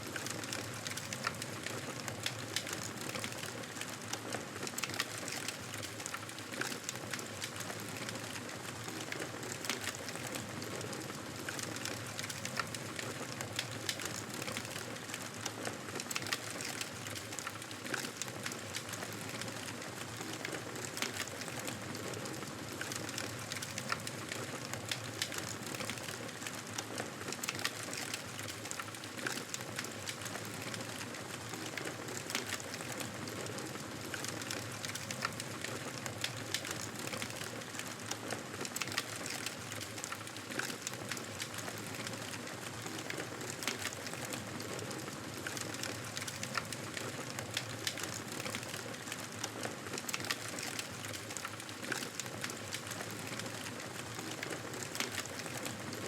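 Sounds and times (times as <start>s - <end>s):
burning logs crackling and popping: 0.1s - 56.0s.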